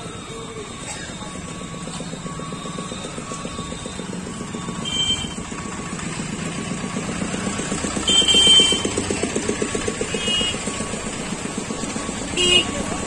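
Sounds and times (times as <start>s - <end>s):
truck engine humming: 0.0s - 13.0s
motorcycles driving past: 1.6s - 13.0s.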